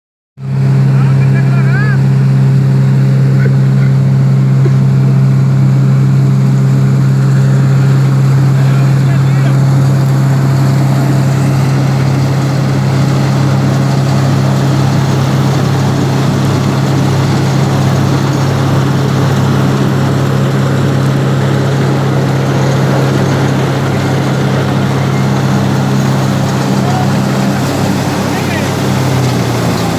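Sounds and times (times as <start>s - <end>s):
machine motor humming and whirring: 0.5s - 29.9s.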